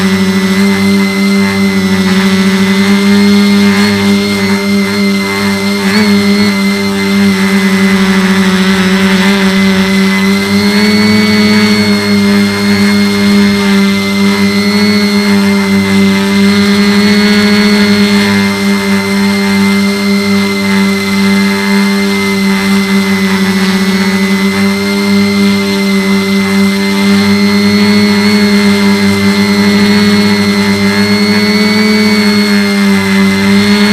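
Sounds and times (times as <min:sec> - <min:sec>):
quadcopter propellers humming: 0:00.0 - 0:33.9.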